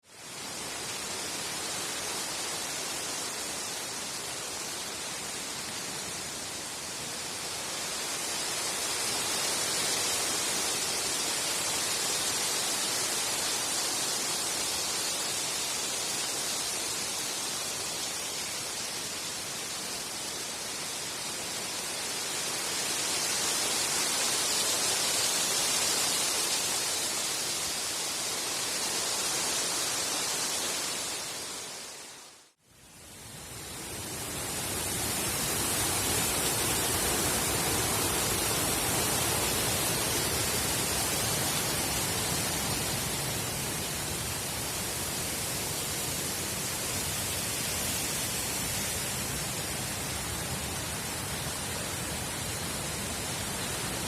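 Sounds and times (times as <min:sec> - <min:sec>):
wind blowing through trees: 0:00.0 - 0:54.0.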